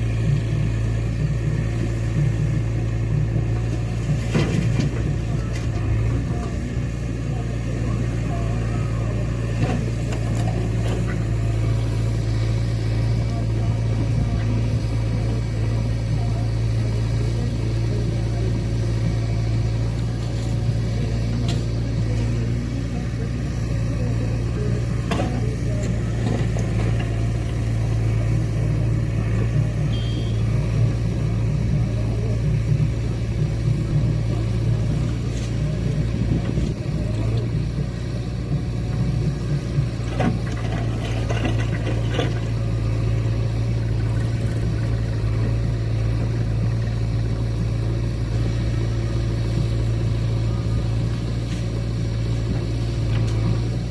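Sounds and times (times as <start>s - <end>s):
diesel machinery engine running: 0.0s - 53.9s.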